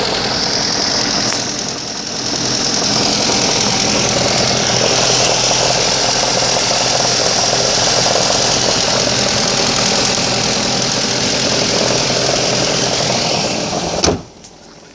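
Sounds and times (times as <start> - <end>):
car engine running: 0.0 - 14.9
extraneous engine noise: 0.0 - 14.9.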